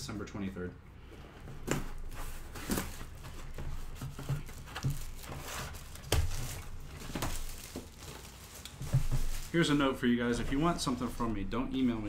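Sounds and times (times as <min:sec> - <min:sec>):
packaging rustling and crinkling: 0:01.5 - 0:12.0.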